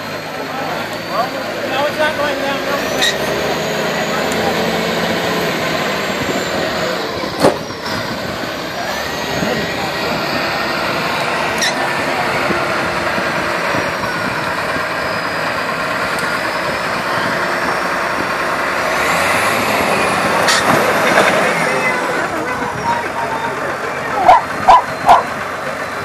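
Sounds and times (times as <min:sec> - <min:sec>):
crowd chatter: 0:00.0 - 0:26.0
tractor diesel engine under load: 0:00.0 - 0:26.0.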